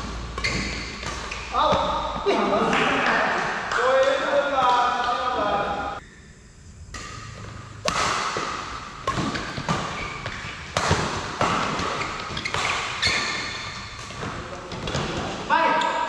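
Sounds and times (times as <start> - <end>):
rackets hitting shuttlecock: 0.0 - 5.4, 6.9 - 15.4.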